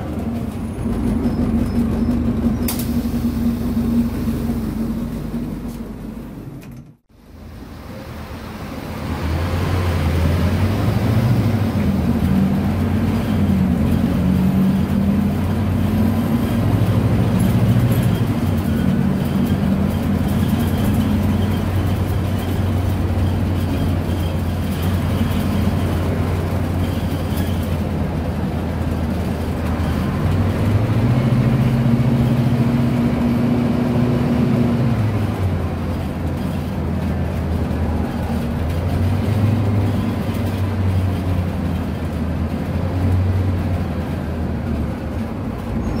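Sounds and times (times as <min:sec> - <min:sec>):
bus diesel engine from inside: 0:00.0 - 0:46.0.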